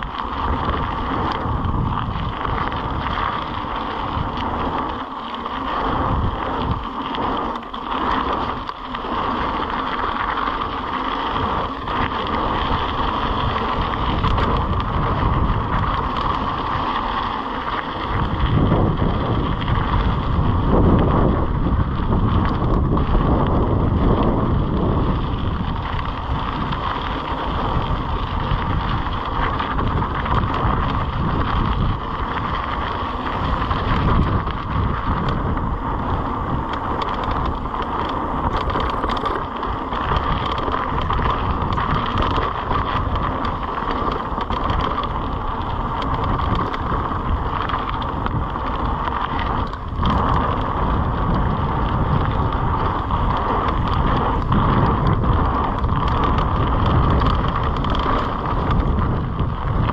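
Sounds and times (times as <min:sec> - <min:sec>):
bike tyres on dirt trail: 0:00.0 - 0:59.9
low rumble: 0:00.0 - 0:59.9
wind on microphone: 0:00.0 - 0:59.9.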